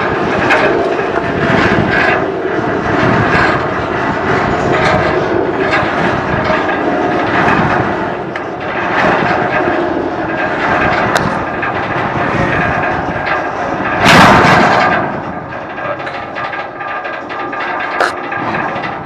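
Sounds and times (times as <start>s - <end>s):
rail cars rumbling and rattling: 0.0s - 19.0s
train clanks: 0.0s - 19.0s.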